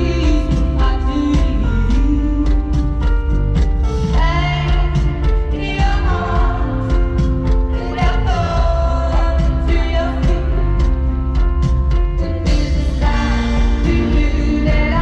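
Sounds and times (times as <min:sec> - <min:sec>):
woman singing: 0:00.0 - 0:03.2, 0:04.0 - 0:11.2, 0:12.2 - 0:15.0
band playing pop song: 0:00.0 - 0:15.0
drum hits: 0:00.0 - 0:15.0
heavy bass: 0:00.0 - 0:15.0.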